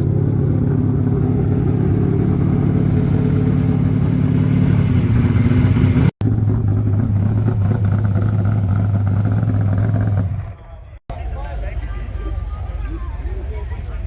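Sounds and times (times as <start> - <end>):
race car engine idling: 0.0 - 14.0.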